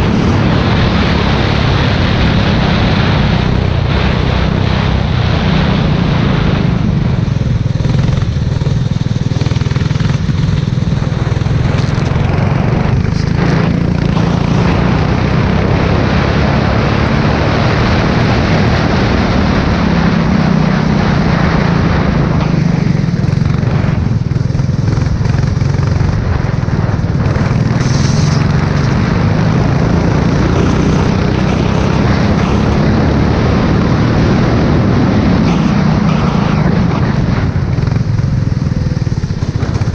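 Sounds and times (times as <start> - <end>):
race car engine revving: 0.0 - 39.9
wind and tyre spray: 0.0 - 39.9.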